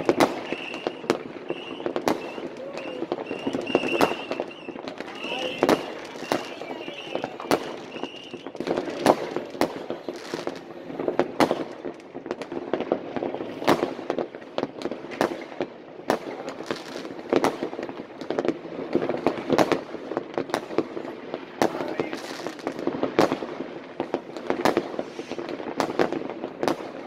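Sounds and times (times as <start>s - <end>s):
firecrackers crackling: 0.0s - 27.0s
firework bangs: 0.0s - 27.0s.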